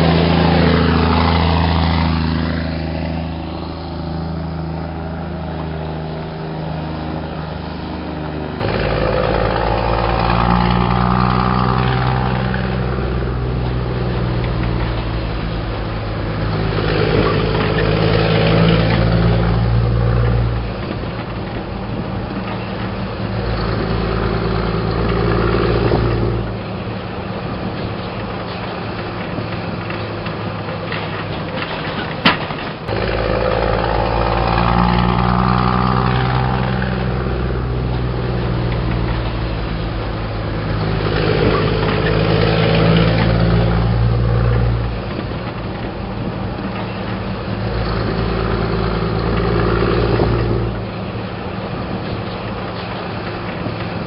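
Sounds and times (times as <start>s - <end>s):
truck diesel engine under load: 0.0s - 54.0s.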